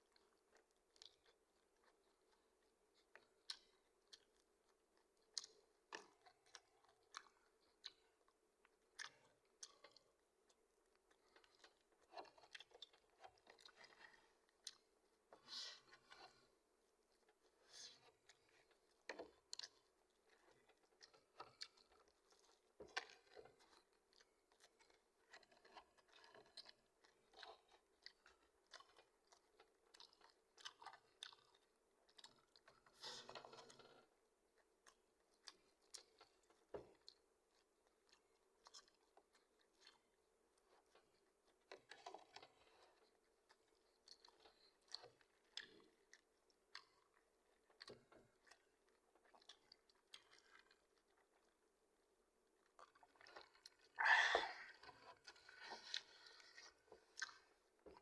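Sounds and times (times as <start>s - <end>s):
fried chicken being chewed: 0.0s - 58.0s.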